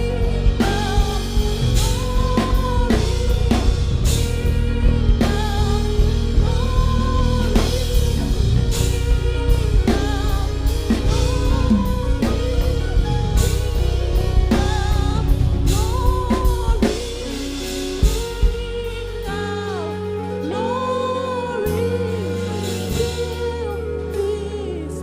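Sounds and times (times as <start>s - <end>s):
drum kit beat: 0.0s - 20.8s
bass: 0.0s - 25.0s
keyboard chords: 0.0s - 25.0s.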